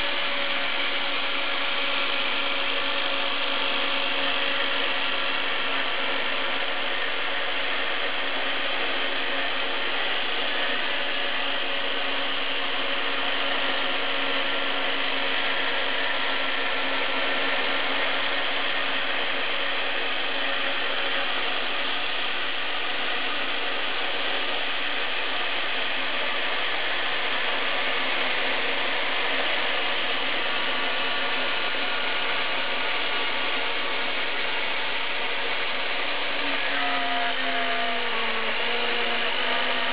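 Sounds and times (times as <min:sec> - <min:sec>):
router spindle milling: 0:00.0 - 0:39.9.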